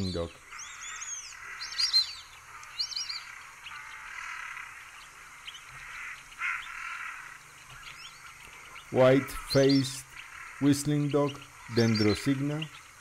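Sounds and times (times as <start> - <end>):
background hiss: 0.0 - 13.0
ducks whistling calls: 0.0 - 13.0.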